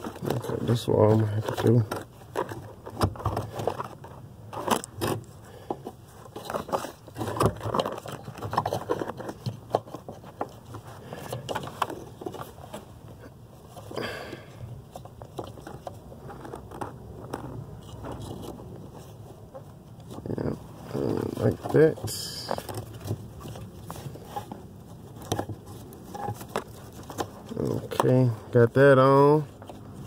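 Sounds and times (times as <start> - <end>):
rustling of wiring: 0.0 - 30.0
small clicks and scrapes: 0.0 - 30.0.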